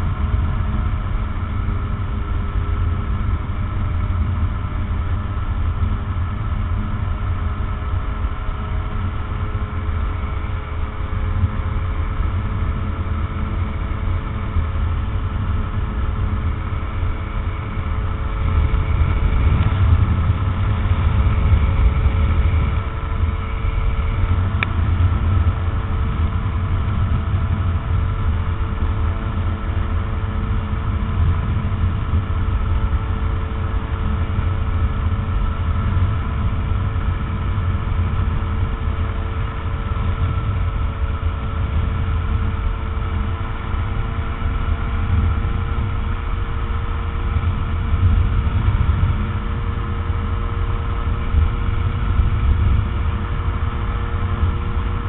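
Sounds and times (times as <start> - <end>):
aircraft engine running: 0.0 - 55.0
wind rumble on microphone: 0.0 - 55.0.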